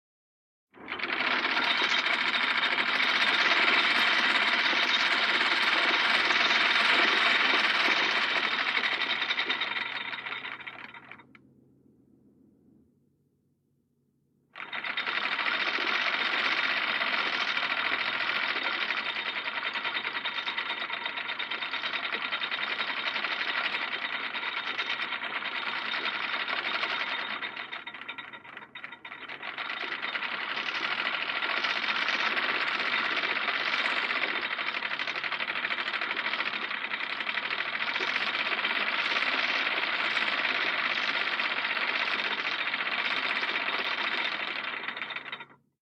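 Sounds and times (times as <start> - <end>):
anchor chain rattling through winch: 0.8 - 11.4, 14.6 - 45.7.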